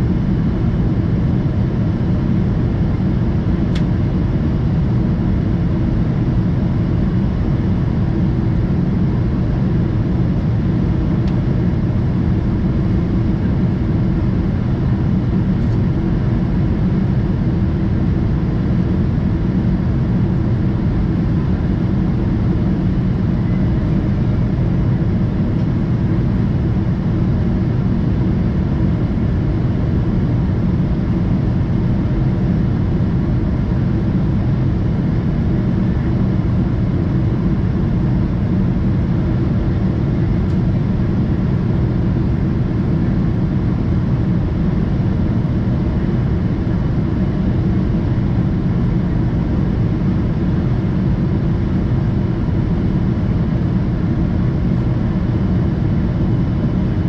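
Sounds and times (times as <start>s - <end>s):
airplane cabin engine rush: 0.0s - 57.0s
faint steady hum: 0.0s - 57.0s.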